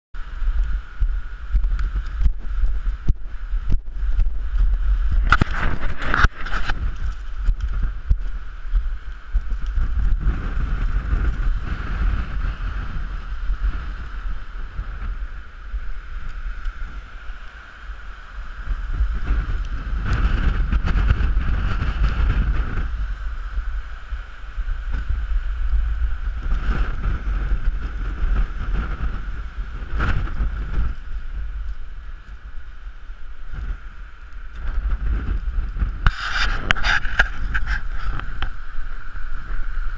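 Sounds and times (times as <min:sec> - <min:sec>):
wind buffeting microphone: 0:00.2 - 0:39.9.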